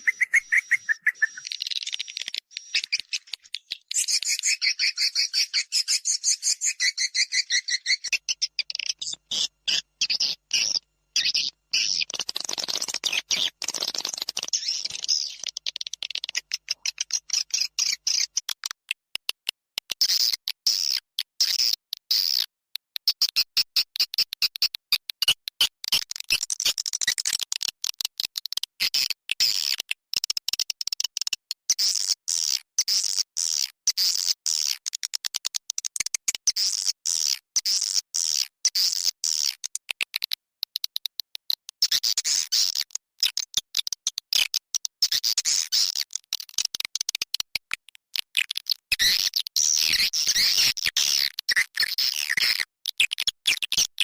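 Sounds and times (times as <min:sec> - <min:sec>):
rapid high bird chirps and twitters: 0:00.0 - 0:18.8, 0:19.9 - 0:47.5, 0:48.2 - 0:54.0.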